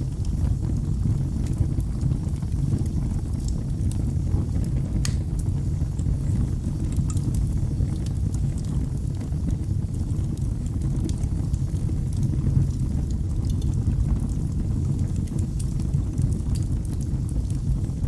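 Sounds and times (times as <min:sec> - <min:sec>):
fire low rumble: 0:00.0 - 0:18.0
wood fire crackling and popping: 0:00.0 - 0:18.0.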